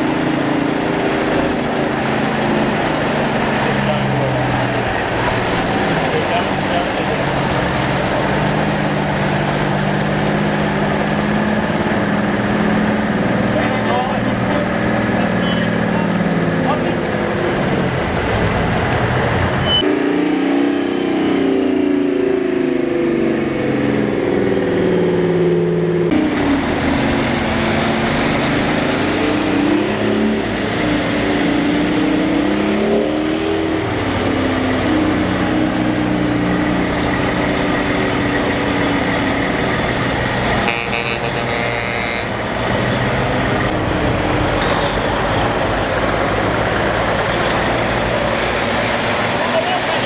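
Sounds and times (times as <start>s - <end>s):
truck diesel engines revving: 0.0s - 50.0s.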